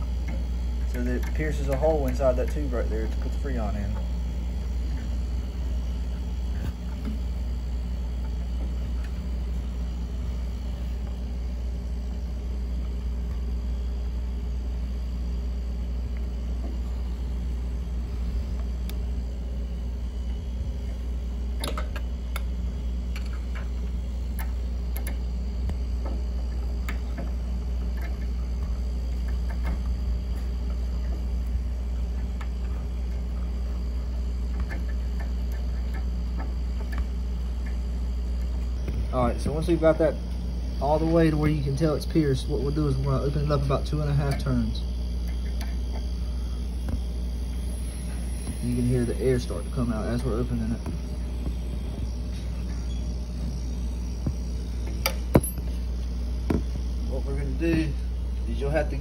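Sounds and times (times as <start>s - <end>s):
refrigerator compressor humming: 0.0s - 59.0s.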